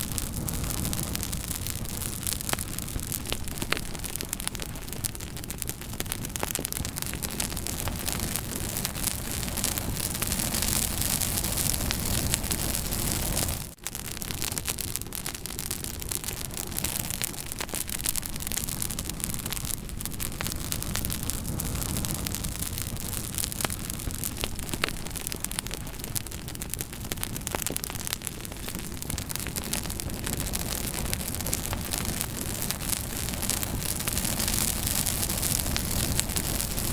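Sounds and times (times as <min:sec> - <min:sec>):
fire crackling and popping: 0:00.0 - 0:36.9
flames hissing: 0:00.0 - 0:36.9.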